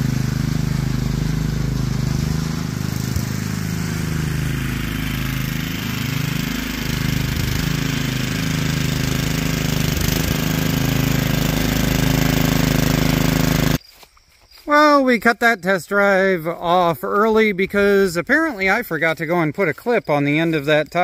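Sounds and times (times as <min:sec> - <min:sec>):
garden tractor engine running: 0:00.0 - 0:13.8, 0:16.1 - 0:21.0.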